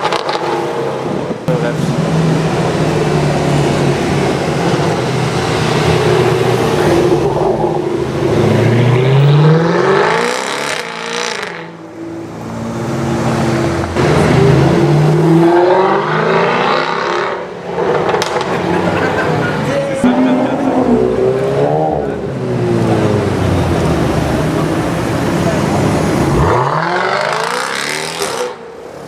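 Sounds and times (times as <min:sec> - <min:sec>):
car engine accelerating: 0:00.0 - 0:28.6.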